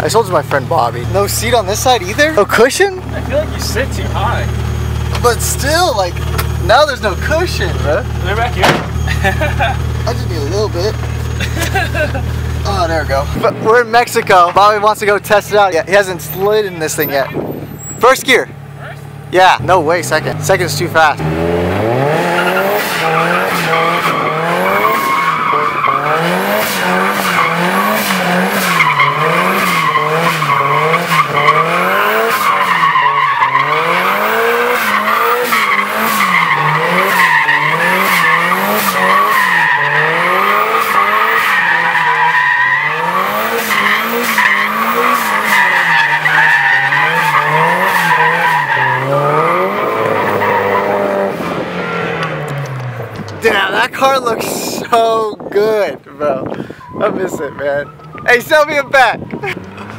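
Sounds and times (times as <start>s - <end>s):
car engine revving: 0.0s - 55.2s, 56.9s - 59.9s
tyres squealing: 0.8s - 18.3s, 19.6s - 51.3s.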